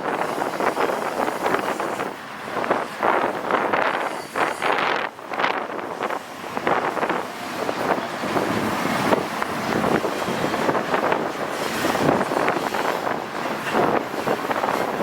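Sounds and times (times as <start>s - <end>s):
freight train wheels rumbling and clacking: 0.0s - 15.0s
wind buffeting microphone: 0.0s - 15.0s.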